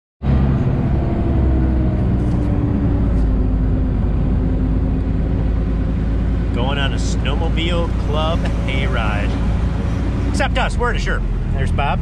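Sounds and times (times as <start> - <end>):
diesel engine deep drone: 0.2 - 12.0.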